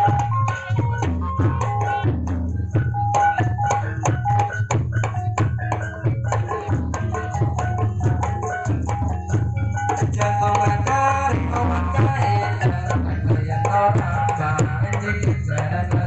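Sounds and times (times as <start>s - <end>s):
fast hand drum strokes: 0.0s - 16.0s.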